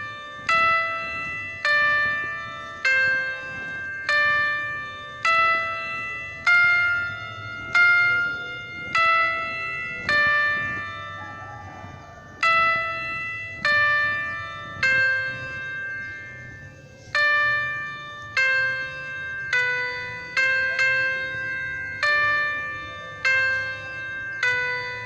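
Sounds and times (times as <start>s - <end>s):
bell-like melody: 0.0s - 25.0s.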